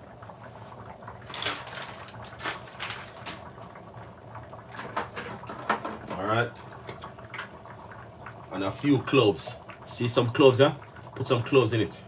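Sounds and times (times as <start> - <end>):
soup boiling with bubbling pops: 0.0 - 12.0.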